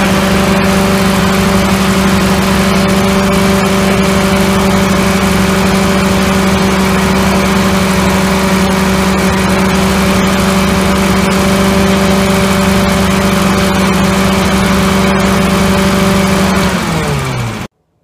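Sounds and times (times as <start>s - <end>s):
engine running: 0.0s - 17.7s.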